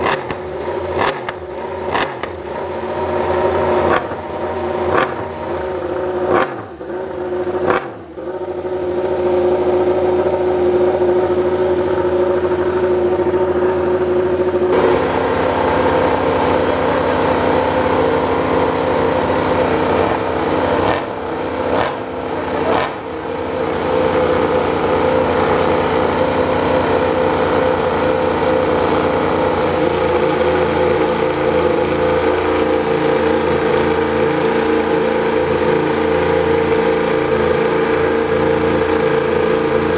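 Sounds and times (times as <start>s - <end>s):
engine throttle blips: 0.0s - 39.9s
motorcycle engine running: 0.0s - 39.9s.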